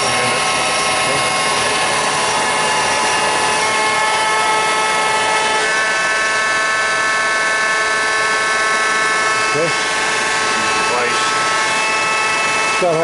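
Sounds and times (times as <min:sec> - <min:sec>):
bandsaw machine whine: 0:00.0 - 0:13.0.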